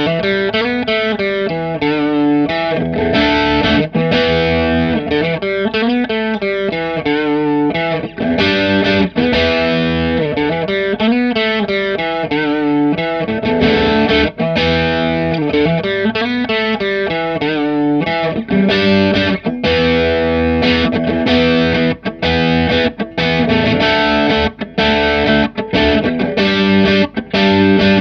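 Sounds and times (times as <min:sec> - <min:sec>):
electric guitar with chorus and overdrive: 0:00.0 - 0:28.0.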